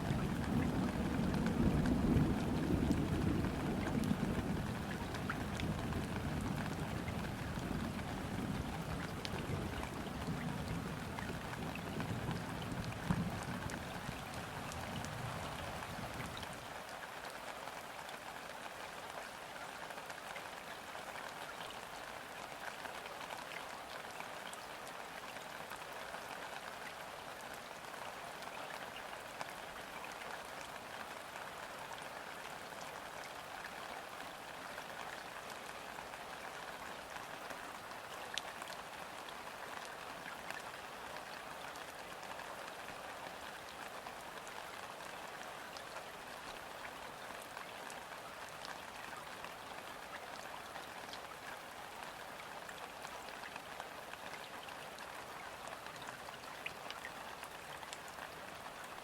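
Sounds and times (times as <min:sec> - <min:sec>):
rain falling on river: 0:00.0 - 0:59.0.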